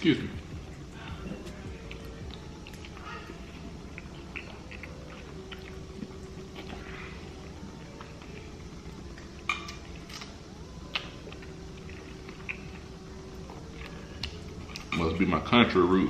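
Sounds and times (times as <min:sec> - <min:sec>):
chewing: 0:00.0 - 0:15.5.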